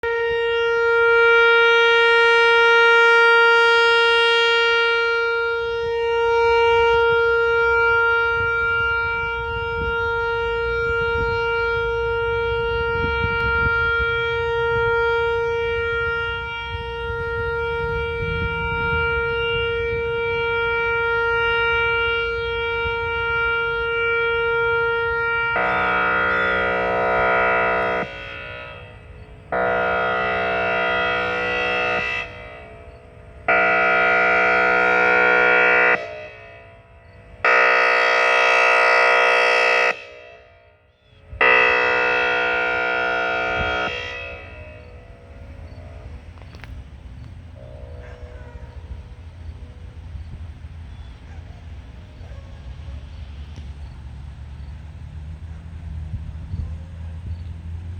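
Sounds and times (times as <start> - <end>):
lower buzzy siren tone: 0.0 - 57.9
warning siren steady tone: 0.0 - 57.9.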